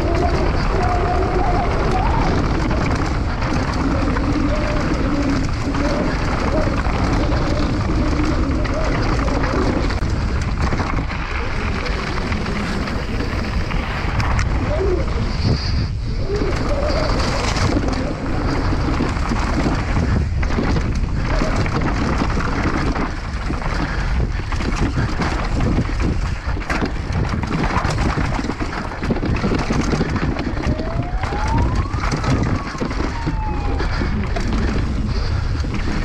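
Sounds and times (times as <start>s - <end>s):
bike tyres and frame rattling: 0.0s - 36.0s
wind buffeting microphone: 0.0s - 36.0s.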